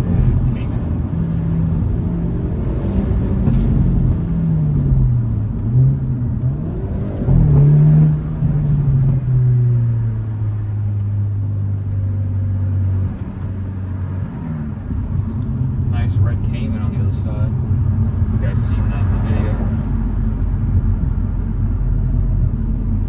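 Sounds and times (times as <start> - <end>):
car engine revving inside cabin: 0.0 - 23.0.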